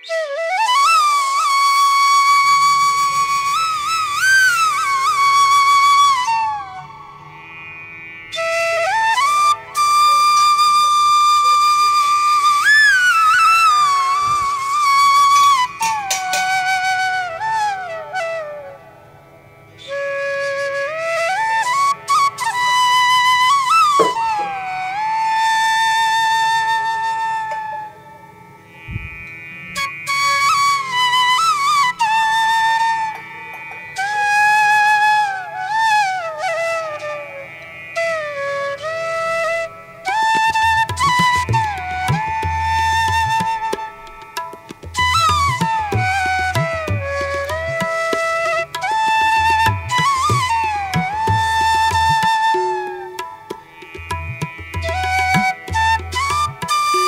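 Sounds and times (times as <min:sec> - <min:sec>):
flute melody with sliding notes: 0:00.0 - 0:07.7, 0:08.3 - 0:19.0, 0:19.8 - 0:28.3, 0:29.8 - 0:33.4, 0:34.0 - 0:57.0.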